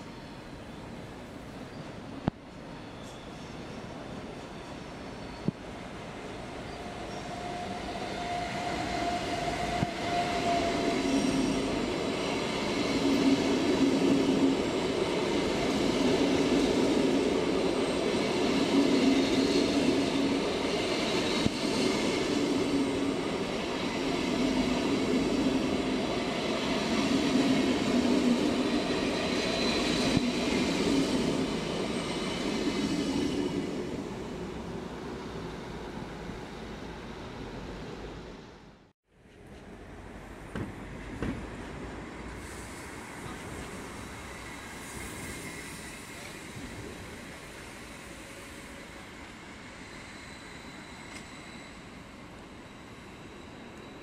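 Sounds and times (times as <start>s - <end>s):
faint high locomotive whine: 0.0s - 54.0s.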